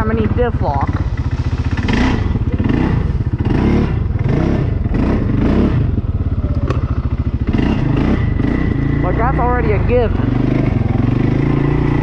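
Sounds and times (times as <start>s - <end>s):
atv engine puttering: 0.0s - 12.0s.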